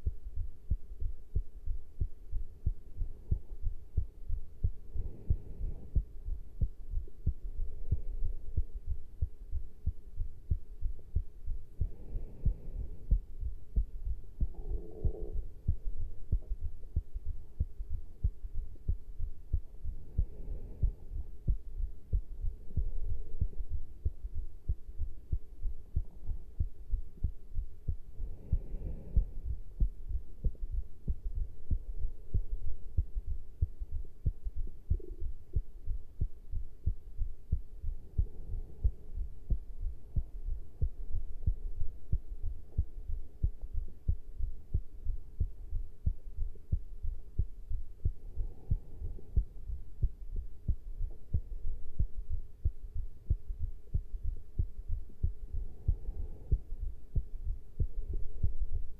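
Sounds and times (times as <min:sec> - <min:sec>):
heartbeat thuds: 0:00.0 - 0:58.9.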